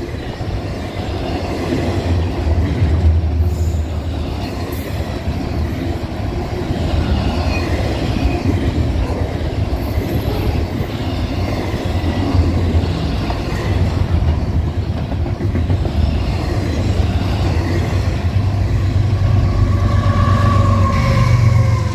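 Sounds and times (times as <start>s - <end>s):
diesel locomotive approaching: 0.0s - 21.9s
train wheels clickety-clack: 0.0s - 21.9s.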